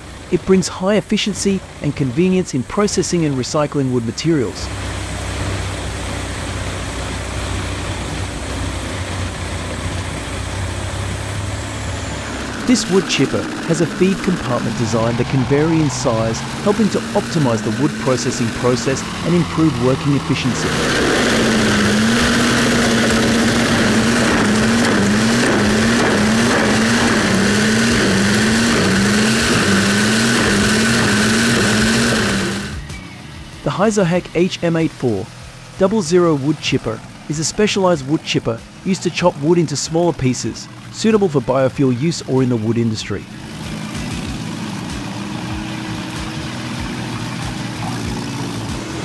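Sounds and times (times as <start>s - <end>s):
wood chipper running: 4.4s - 49.0s.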